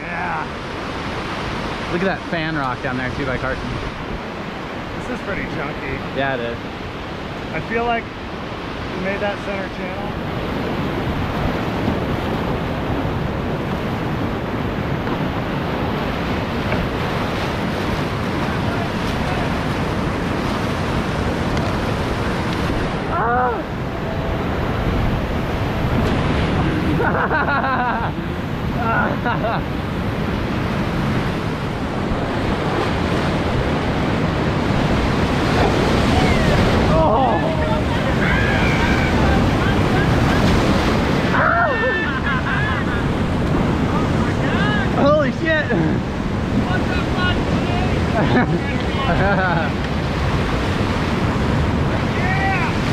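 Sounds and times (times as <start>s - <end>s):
whitewater rushing: 0.0s - 52.9s.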